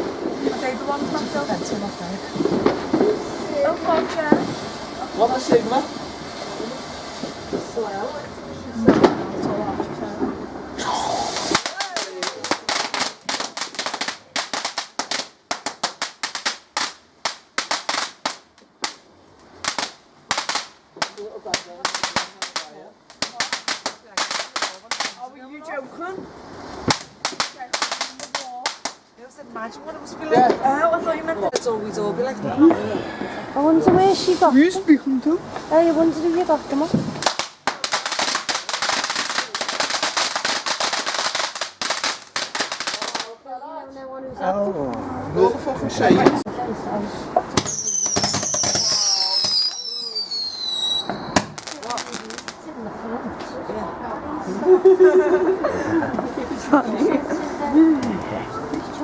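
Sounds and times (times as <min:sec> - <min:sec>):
fireworks crackling: 0:00.0 - 0:43.5, 0:45.0 - 0:59.0.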